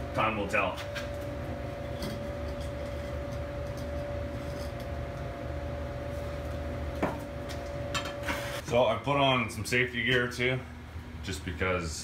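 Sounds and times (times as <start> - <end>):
constant whine: 0.0 - 12.0
low machine hum: 0.0 - 12.0.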